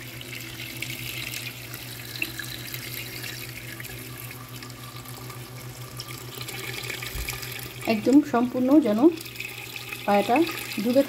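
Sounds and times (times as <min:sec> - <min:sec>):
water pouring into pot: 0:00.0 - 0:11.0.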